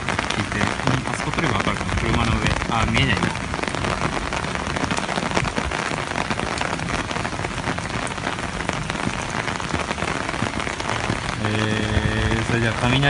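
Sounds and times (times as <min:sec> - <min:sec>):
heavy rain on hard surfaces: 0:00.0 - 0:13.0.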